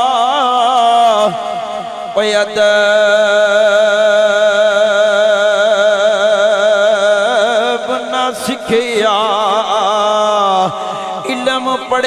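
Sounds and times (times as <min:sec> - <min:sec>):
man singing with vibrato: 0:00.0 - 0:12.0.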